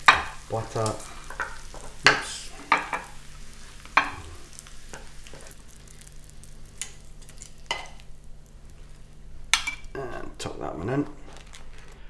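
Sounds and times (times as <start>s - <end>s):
fried bacon crackling: 0.0s - 12.0s.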